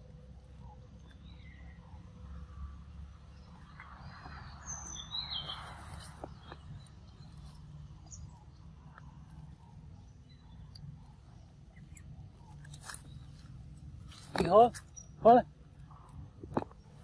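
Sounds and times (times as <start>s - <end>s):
low background rumble: 0.0s - 17.0s
wild birds chirping: 0.0s - 17.0s.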